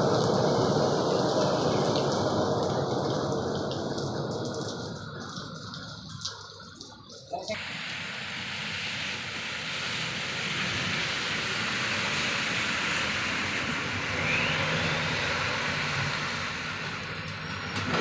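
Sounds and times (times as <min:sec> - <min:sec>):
rain on wet road hiss: 0:00.0 - 0:18.0
truck engine drone: 0:00.0 - 0:18.0.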